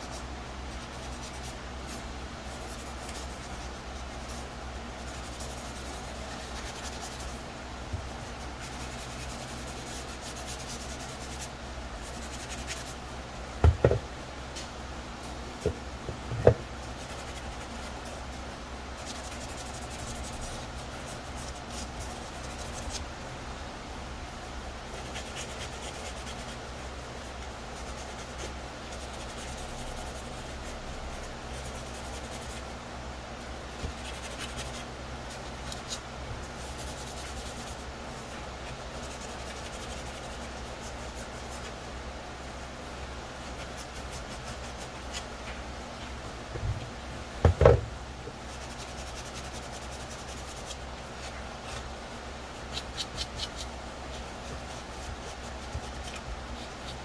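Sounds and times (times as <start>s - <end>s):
sponge sanding plastic: 0.0s - 13.0s, 16.4s - 23.1s, 24.9s - 32.7s, 33.7s - 41.9s, 43.3s - 45.4s, 48.4s - 57.0s.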